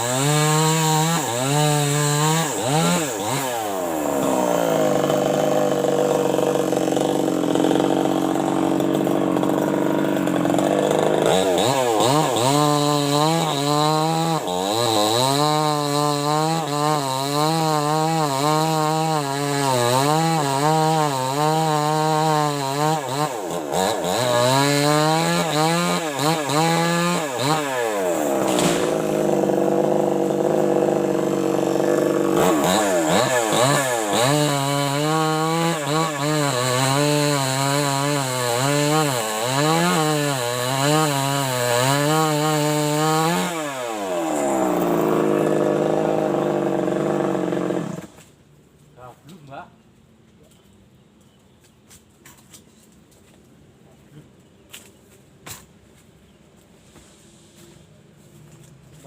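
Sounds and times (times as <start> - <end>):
chainsaw cutting wood: 0.0 - 48.3.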